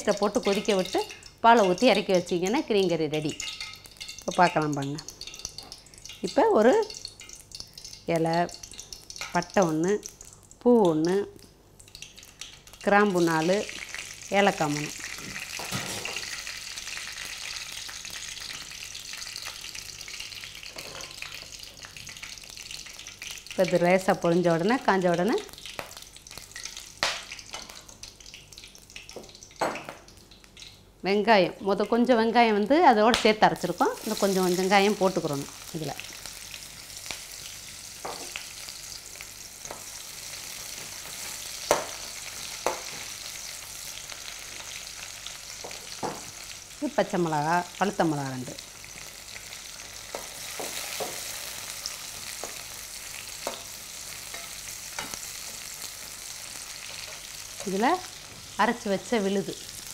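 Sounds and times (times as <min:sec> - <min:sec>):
spices sizzling in oil: 0:00.0 - 0:59.9.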